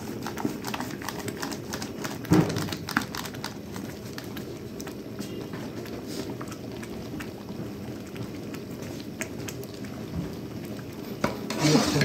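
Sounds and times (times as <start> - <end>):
sauce bubbling and spluttering: 0.0 - 12.0.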